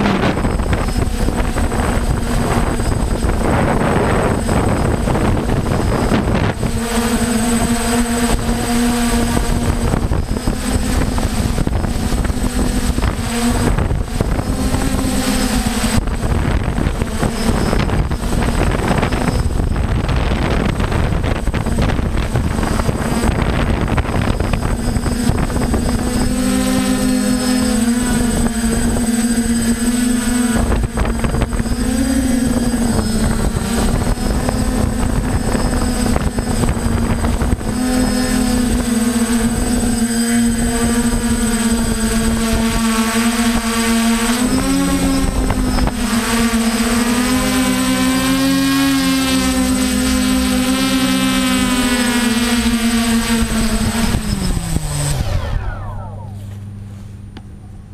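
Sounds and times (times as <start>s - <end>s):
wind buffeting microphone: 0.0s - 57.3s
drone motors humming: 0.0s - 57.9s.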